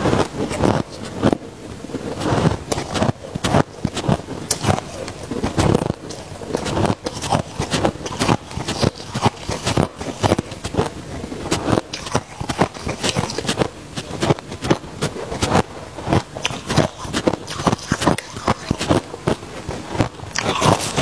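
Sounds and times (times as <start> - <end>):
chewing crunchy ice: 0.0 - 21.0.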